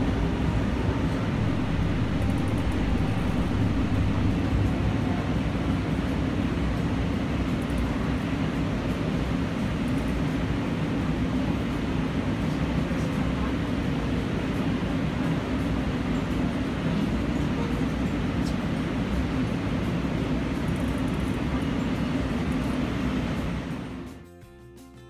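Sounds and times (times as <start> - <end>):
light rail train rumble: 0.0 - 24.7.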